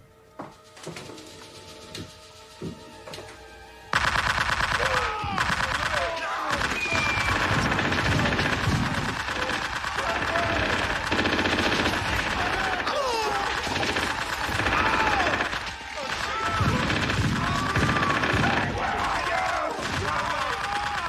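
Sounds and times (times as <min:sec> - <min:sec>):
machine-gun fire: 0:03.9 - 0:21.0.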